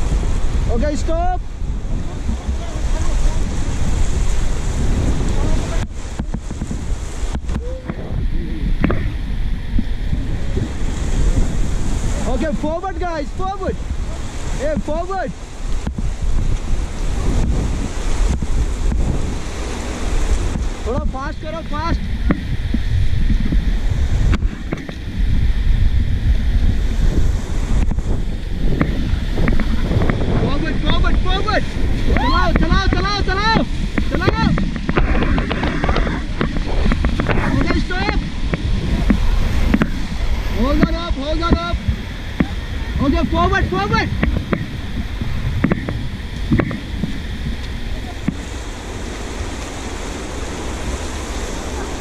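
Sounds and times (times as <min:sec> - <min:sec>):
paddle strokes hitting water: 0:00.0 - 0:25.4, 0:26.4 - 0:52.0
river rapids rushing: 0:00.0 - 0:52.0
wind buffeting microphone: 0:00.0 - 0:52.0.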